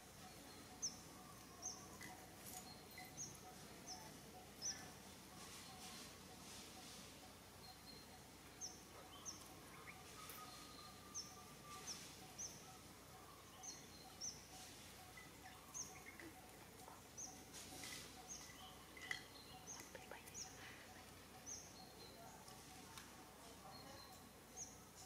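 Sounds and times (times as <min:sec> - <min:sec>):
low background hiss: 0:00.0 - 0:25.0
small birds chirping: 0:00.0 - 0:25.0.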